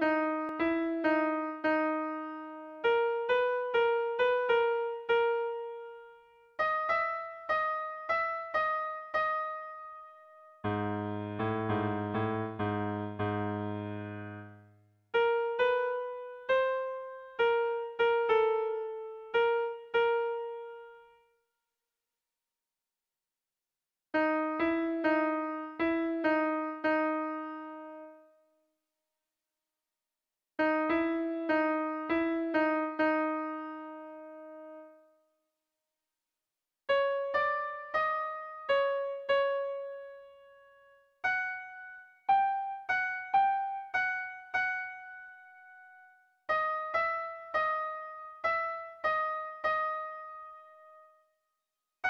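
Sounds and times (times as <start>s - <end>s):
piano music: 0.0s - 21.2s, 24.2s - 28.3s, 30.6s - 35.1s, 36.9s - 51.2s.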